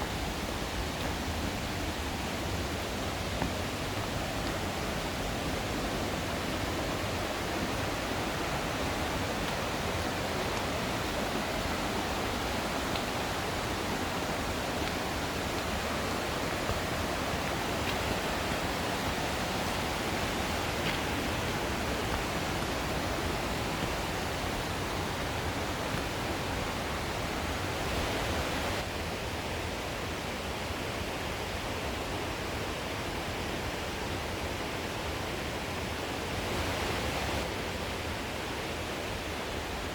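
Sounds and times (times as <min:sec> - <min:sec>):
rushing stream water: 0:00.0 - 0:39.9.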